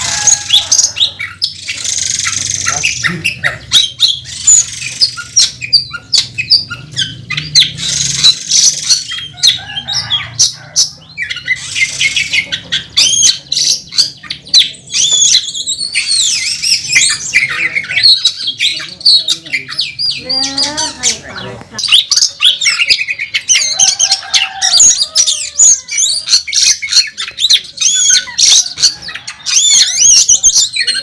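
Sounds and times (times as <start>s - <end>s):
songbird singing harsh rattles: 0.0s - 31.0s.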